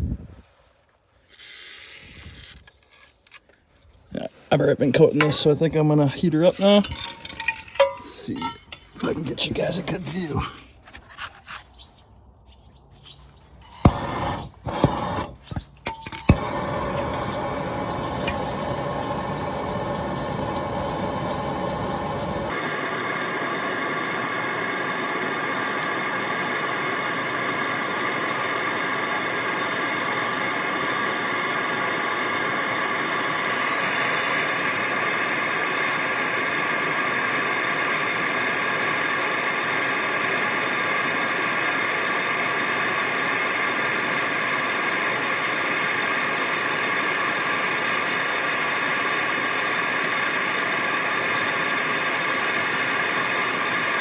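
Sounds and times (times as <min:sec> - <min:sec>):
gas torch hissing: 0:04.1 - 0:10.5, 0:13.6 - 0:54.0.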